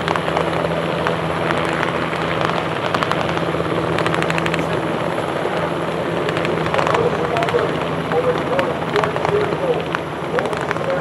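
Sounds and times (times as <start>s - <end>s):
helicopter flying past: 0.0s - 11.0s
rapid rotor blade beats: 0.0s - 11.0s.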